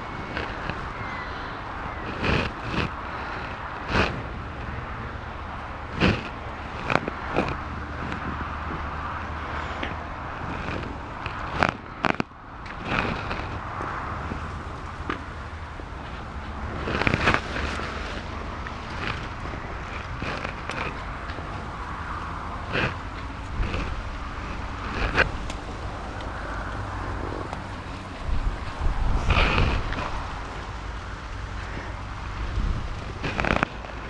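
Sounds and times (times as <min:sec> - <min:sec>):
outdoor rustle: 0:00.0 - 0:34.0
wind noise on microphone: 0:00.0 - 0:34.0.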